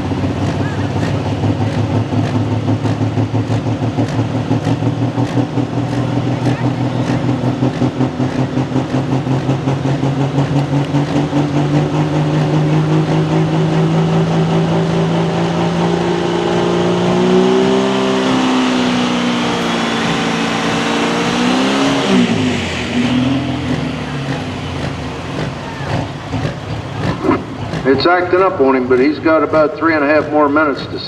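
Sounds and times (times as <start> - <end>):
tractor diesel engine running unevenly: 0.0 - 31.0.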